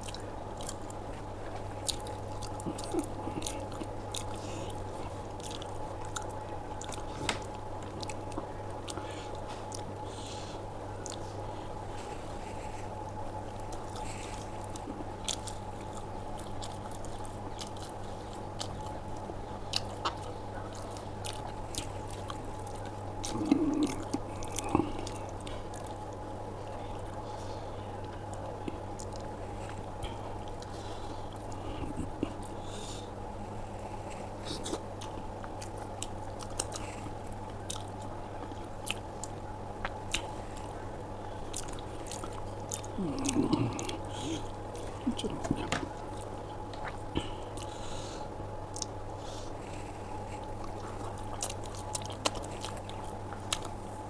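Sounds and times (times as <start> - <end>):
chewing food: 0.0 - 48.0, 48.6 - 54.0.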